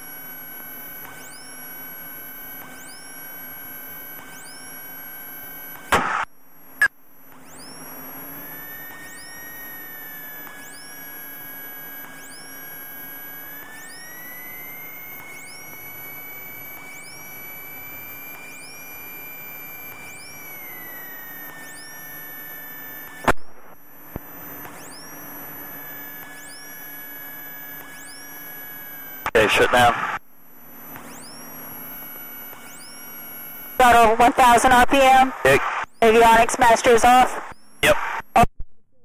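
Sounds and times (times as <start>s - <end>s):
electronic whine sliding in pitch: 0.0s - 29.9s, 30.7s - 35.2s.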